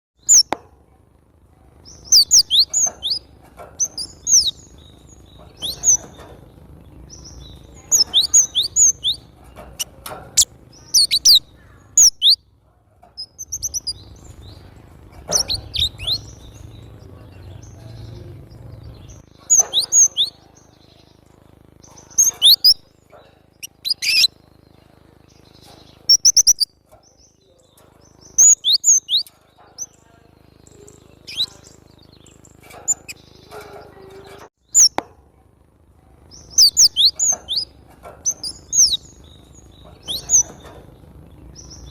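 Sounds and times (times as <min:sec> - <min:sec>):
bird chirping: 0:00.2 - 0:00.6, 0:01.6 - 0:35.1, 0:36.2 - 0:41.9.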